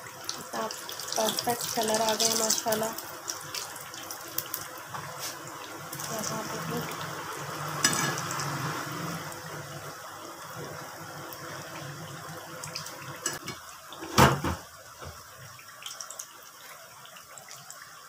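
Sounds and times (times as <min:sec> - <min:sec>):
food sizzling in hot oil: 0:00.0 - 0:17.4.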